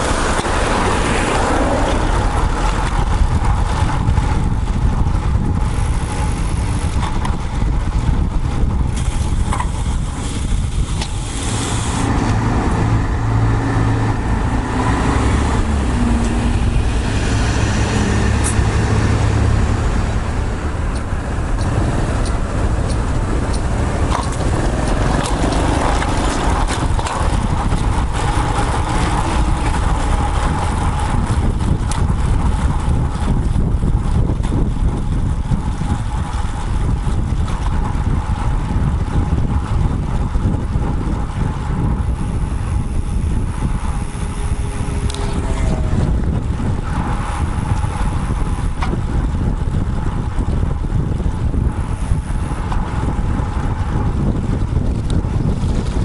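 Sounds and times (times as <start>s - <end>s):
low engine hum: 0.0s - 56.0s
road traffic noise: 0.0s - 56.0s
wind rumbling on microphone: 0.0s - 56.0s.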